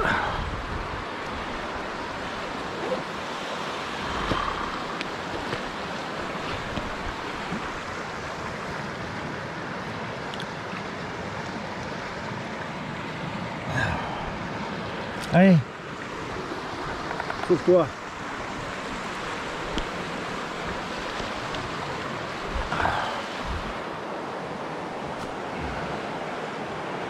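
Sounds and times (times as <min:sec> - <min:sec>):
river water flowing over stones: 0:00.0 - 0:27.0.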